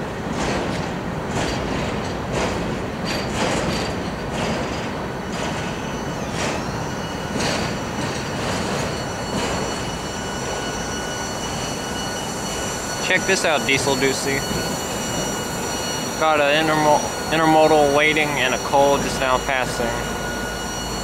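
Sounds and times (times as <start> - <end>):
train cars rolling past: 0.0 - 21.0
wheels clicking on rails: 0.0 - 21.0
high wheel squeal: 3.0 - 21.0.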